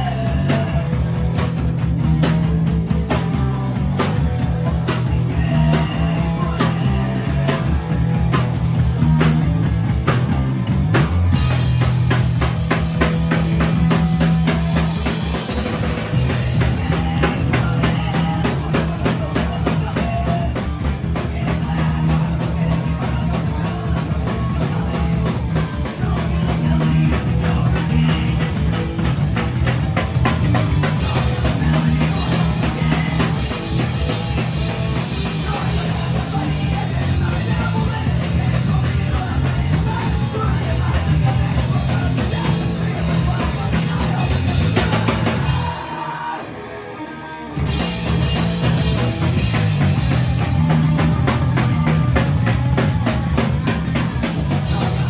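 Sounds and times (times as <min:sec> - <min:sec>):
fast drumming: 0:00.0 - 0:46.1, 0:47.6 - 0:55.0
guitar: 0:00.0 - 0:55.0.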